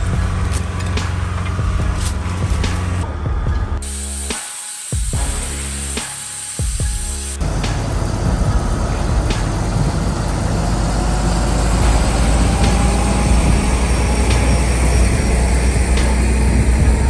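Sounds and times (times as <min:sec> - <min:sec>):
heavy vehicle engine humming: 0:00.0 - 0:04.4, 0:05.1 - 0:17.0.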